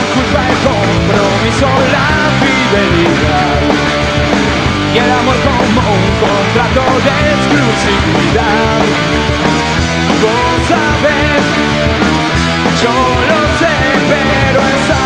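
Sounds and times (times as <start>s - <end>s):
person singing: 0.0s - 4.0s, 4.8s - 9.2s, 10.0s - 11.7s, 12.6s - 15.0s
bass and drums: 0.0s - 15.0s
distorted electric guitars: 0.0s - 15.0s.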